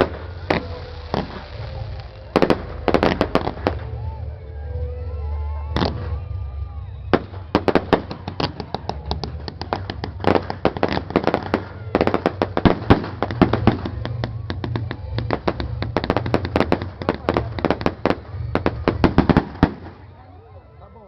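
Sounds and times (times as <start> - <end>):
fireworks cracking and popping: 0.0 - 4.2, 5.7 - 6.3, 7.0 - 20.1.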